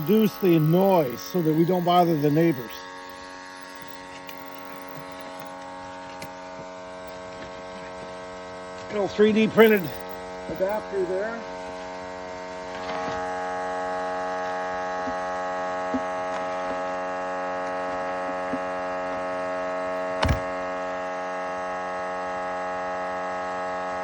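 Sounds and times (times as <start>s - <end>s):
blower motor humming whine: 0.0s - 24.0s.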